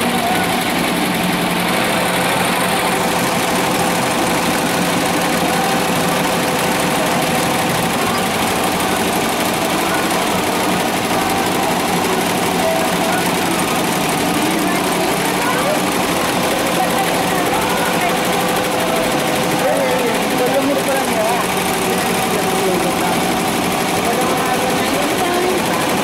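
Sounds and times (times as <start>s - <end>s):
embroidery machine clatter: 0.0s - 26.0s.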